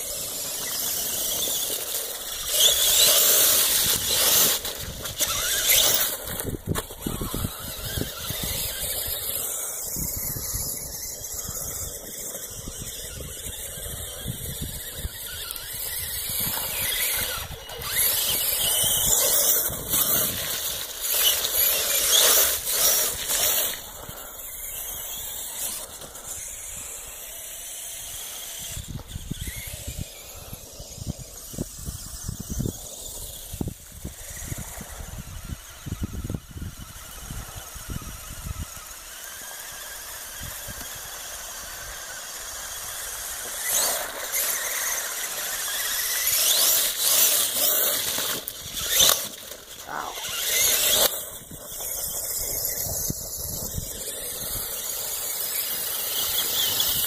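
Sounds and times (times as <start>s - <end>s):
toy truck electric motors whining: 0.0s - 57.0s.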